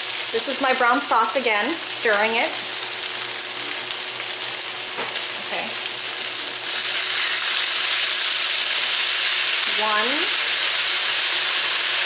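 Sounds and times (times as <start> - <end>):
beef sizzling in a wok: 0.0 - 12.0.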